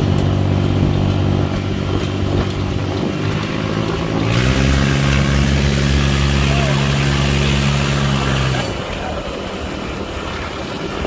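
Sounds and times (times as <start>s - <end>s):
buggy engine revving: 0.0s - 10.5s.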